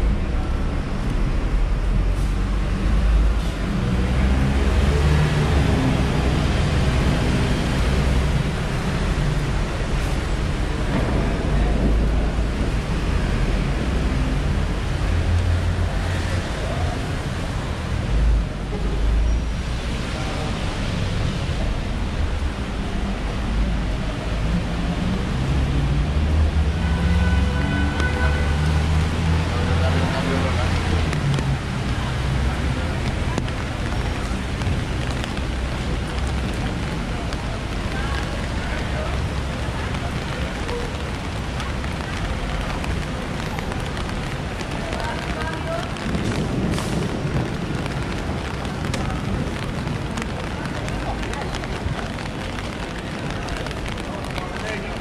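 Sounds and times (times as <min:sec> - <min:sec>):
faint voices of passers-by: 0:00.0 - 0:55.0
rain hissing on wet pavement: 0:00.0 - 0:55.0
traffic rumble: 0:00.0 - 0:55.0.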